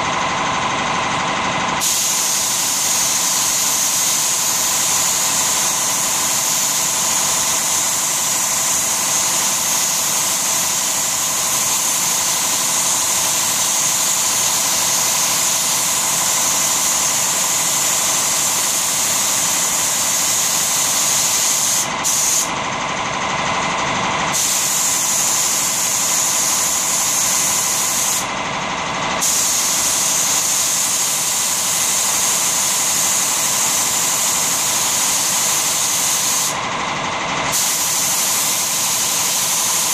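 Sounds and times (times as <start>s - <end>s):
spray gun hissing: 1.8s - 22.5s, 24.3s - 28.3s, 29.2s - 36.6s, 37.5s - 39.9s.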